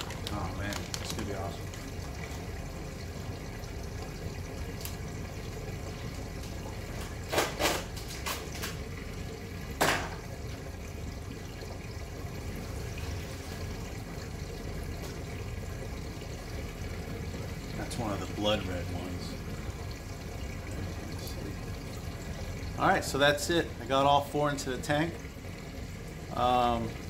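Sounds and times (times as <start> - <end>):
aquarium water trickling: 0.0 - 27.0.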